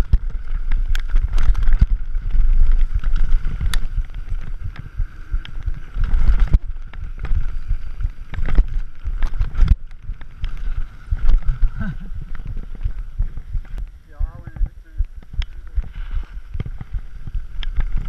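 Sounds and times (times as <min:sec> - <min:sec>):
low rumble: 0:00.0 - 0:18.0
wind rushing over microphone: 0:00.0 - 0:18.0.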